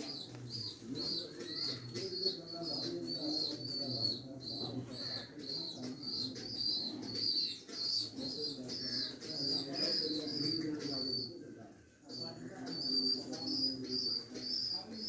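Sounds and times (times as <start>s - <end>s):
pigeons cooing: 0.0s - 11.4s, 12.1s - 15.0s.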